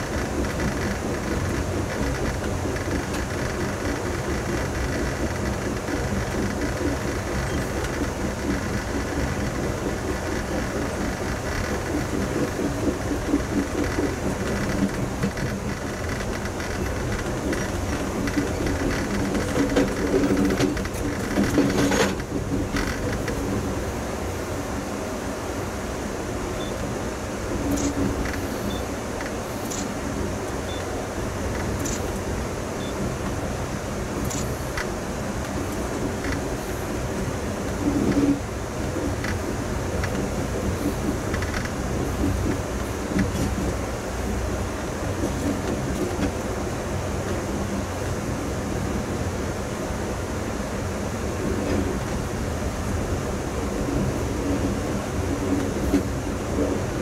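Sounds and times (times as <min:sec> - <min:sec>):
train clatter: 0:00.0 - 0:24.8, 0:26.5 - 0:49.6, 0:50.2 - 0:57.0
train wheels on rail: 0:00.0 - 0:57.0.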